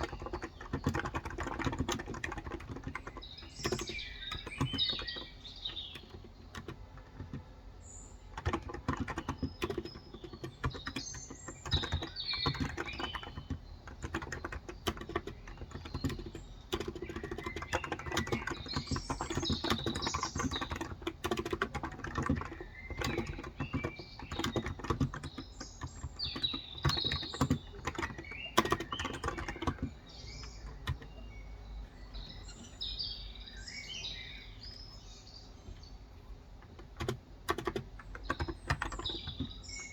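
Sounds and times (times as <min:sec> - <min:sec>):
keyboard key clicks: 0:00.0 - 0:07.5, 0:08.3 - 0:31.2, 0:36.6 - 0:39.9
birds chirping: 0:00.0 - 0:39.9.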